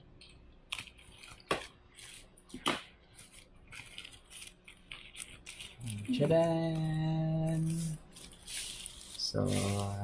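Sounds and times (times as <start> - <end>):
plastic bag crinkling: 0.7 - 10.0.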